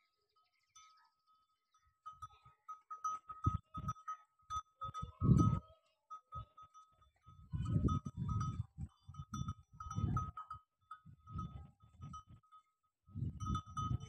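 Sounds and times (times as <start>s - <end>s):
thin ringing tone: 0.5s - 14.0s.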